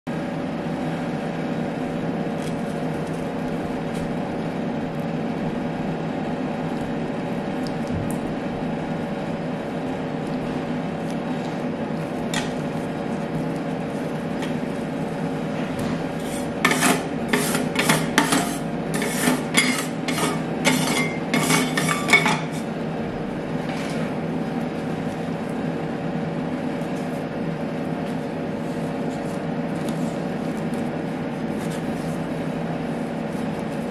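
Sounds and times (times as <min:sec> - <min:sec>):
refrigeration unit humming: 0:00.1 - 0:33.9.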